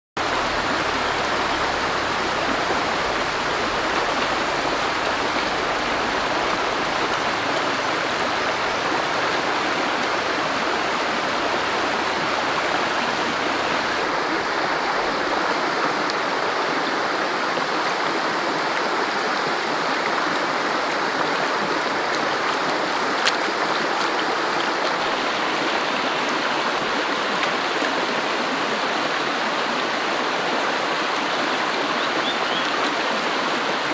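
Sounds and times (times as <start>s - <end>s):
stream rushing over rocks: 0.2s - 33.9s.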